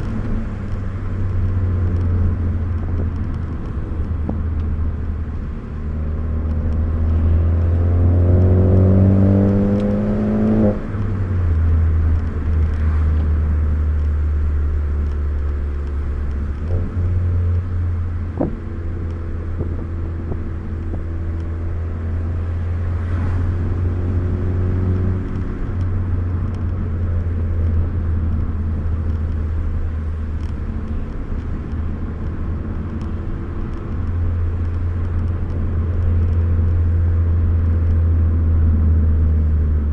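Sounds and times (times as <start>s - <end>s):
car engine revving: 0.0s - 39.9s
tyre and road drone: 0.0s - 39.9s.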